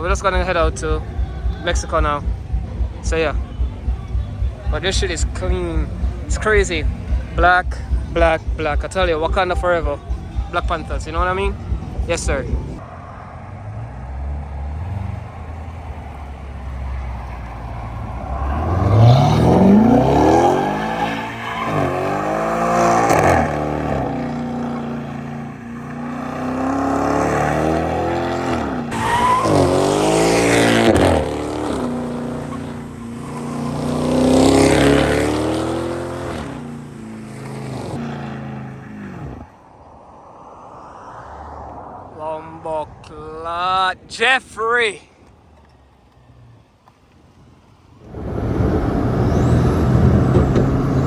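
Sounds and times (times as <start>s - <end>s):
turbocharged car engine accelerating: 0.0s - 39.9s, 48.0s - 51.0s.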